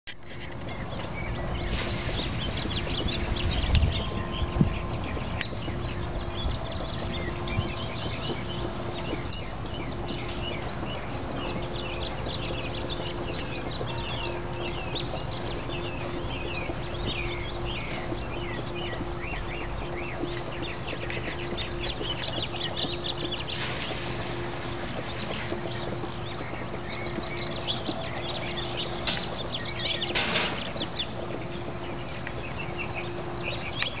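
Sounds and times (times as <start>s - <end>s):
small birds chirping: 0.1s - 34.0s
steady low hum: 0.1s - 34.0s
wind rumble on microphone: 0.1s - 34.0s.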